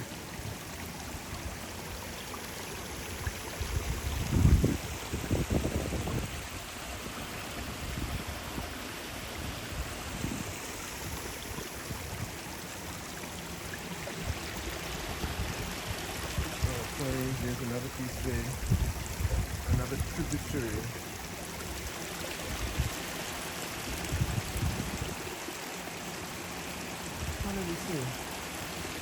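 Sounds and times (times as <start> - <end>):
mountain stream running: 0.0 - 29.0.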